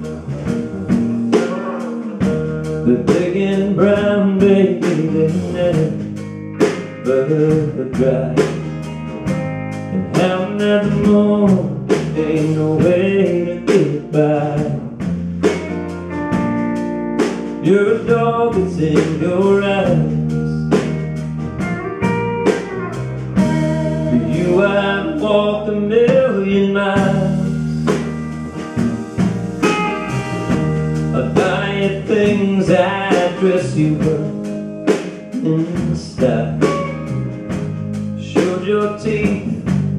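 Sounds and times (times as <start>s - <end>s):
lead guitar bending notes: 0.0s - 39.9s
live band playing blues-country: 0.0s - 39.9s.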